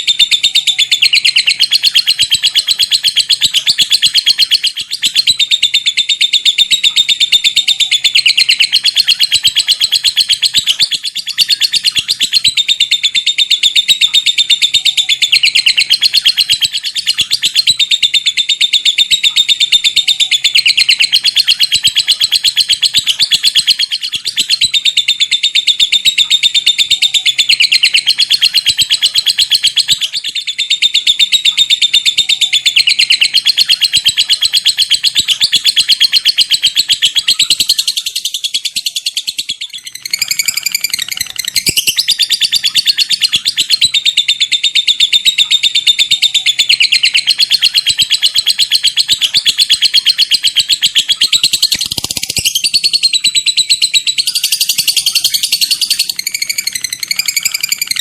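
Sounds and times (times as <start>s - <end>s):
lovebird chattering and ticking: 0.0s - 58.0s.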